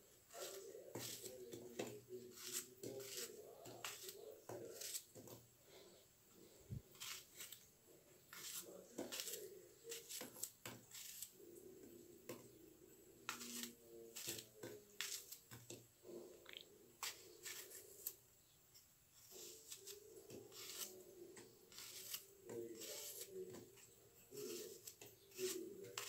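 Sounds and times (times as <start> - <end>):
knife cutting apple: 0.3 - 5.5, 6.8 - 7.7, 8.3 - 12.6, 13.2 - 15.9, 17.0 - 18.2, 19.2 - 26.0.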